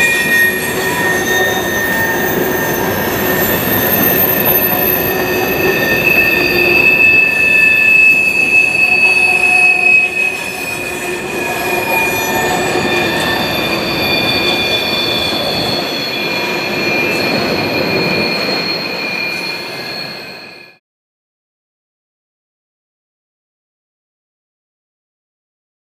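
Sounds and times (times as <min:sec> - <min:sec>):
rumble of train cars: 0:00.0 - 0:20.8
train wheels squealing: 0:00.0 - 0:20.8.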